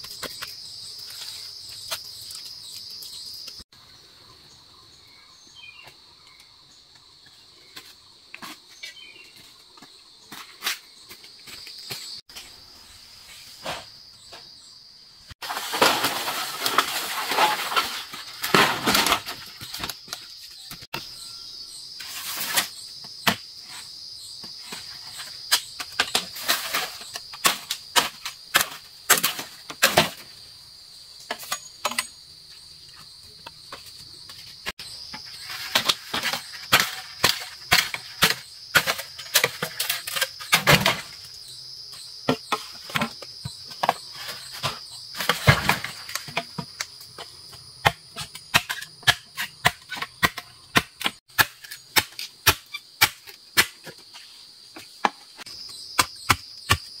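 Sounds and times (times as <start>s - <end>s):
insects droning high-pitched: 0.0s - 57.0s.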